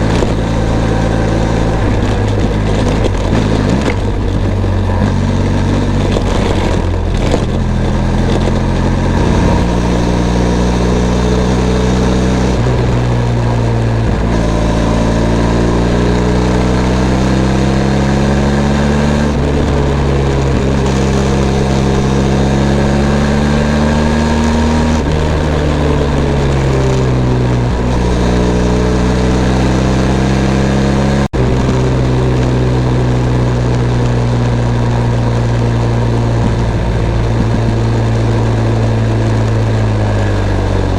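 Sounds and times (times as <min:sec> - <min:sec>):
motorcycle engine revving while riding: 0:00.0 - 0:40.9.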